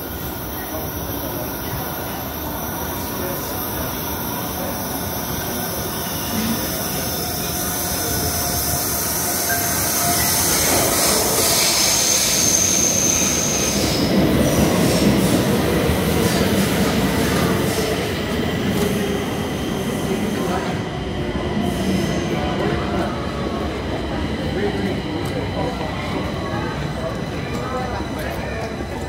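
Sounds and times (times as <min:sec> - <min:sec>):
metro train pulling in: 0:00.0 - 0:29.0.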